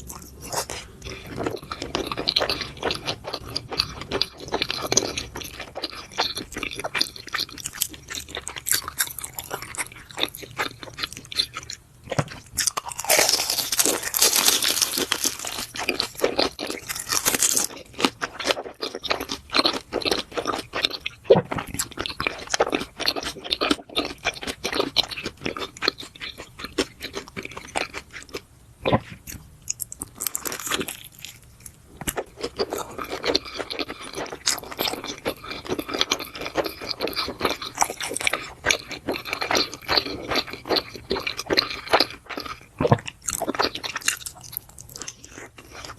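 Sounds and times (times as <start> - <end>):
chewing crunchy food: 0.0 - 45.9.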